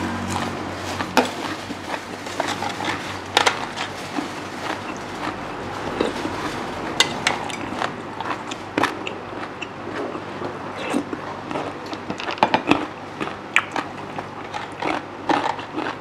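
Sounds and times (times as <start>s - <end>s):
sharp clicks and crunches: 0.1s - 16.0s
chewing and mouth noises: 0.2s - 16.0s.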